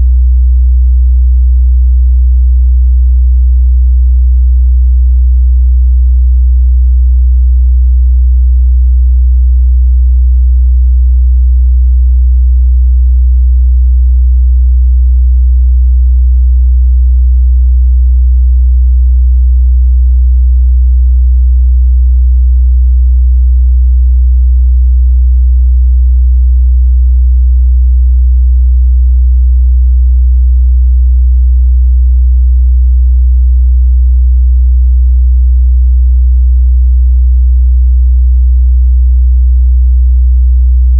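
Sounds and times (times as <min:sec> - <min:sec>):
low sine test tone: 0:00.0 - 0:37.2.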